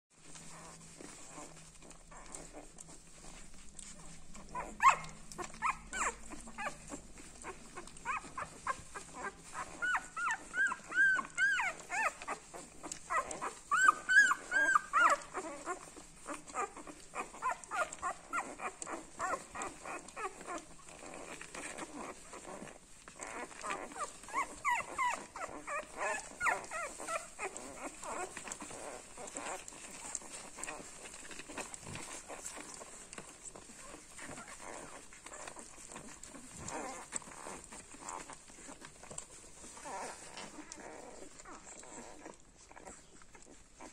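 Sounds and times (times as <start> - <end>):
puppies squeaking and whimpering: 0.2 - 43.9
suckling and shuffling clicks: 0.2 - 43.9.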